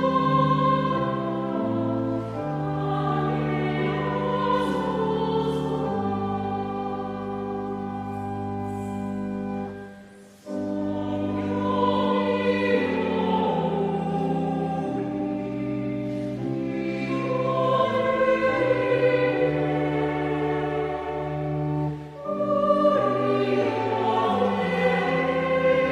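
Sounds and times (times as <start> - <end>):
choir singing a hymn: 0.0 - 25.9
pipe organ: 0.0 - 25.9.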